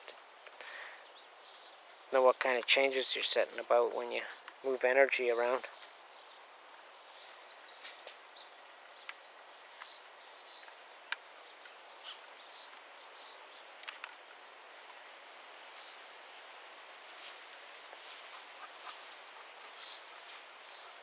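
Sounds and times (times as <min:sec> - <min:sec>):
small birds chirping: 0:00.0 - 0:21.0
steady soft hiss: 0:00.0 - 0:21.0.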